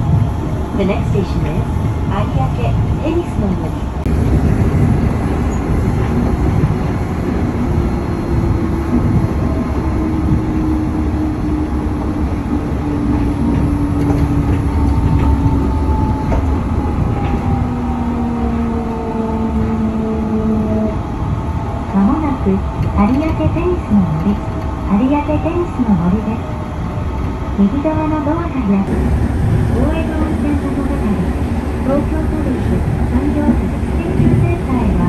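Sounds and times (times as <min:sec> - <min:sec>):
train cabin rumble: 0:00.0 - 0:35.0.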